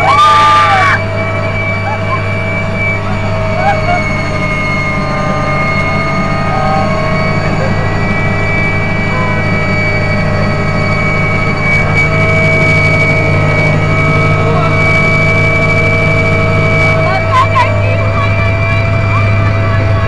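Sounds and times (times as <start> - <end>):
helicopter rotor and engine drone: 0.0 - 20.0
high turbine whine: 0.0 - 20.0.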